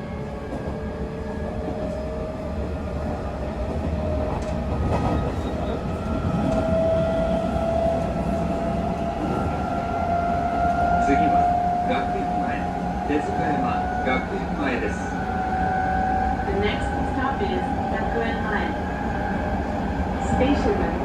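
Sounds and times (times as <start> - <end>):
wheels rumbling on rails: 0.2 - 21.0.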